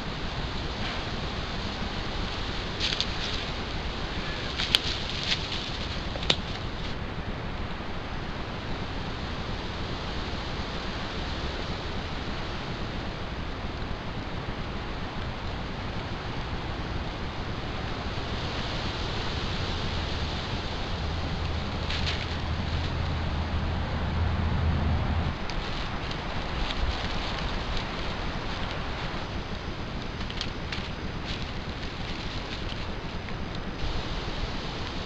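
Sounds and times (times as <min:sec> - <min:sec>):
wind hiss on microphone: 0:00.0 - 0:24.5, 0:25.1 - 0:35.0
low hum: 0:00.0 - 0:35.0.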